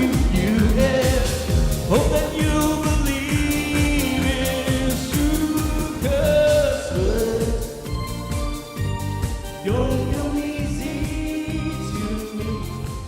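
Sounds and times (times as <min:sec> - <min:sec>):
person singing: 0:00.0 - 0:08.7, 0:09.3 - 0:13.0
drum beat: 0:00.0 - 0:12.3
band playing pop song: 0:00.0 - 0:13.0.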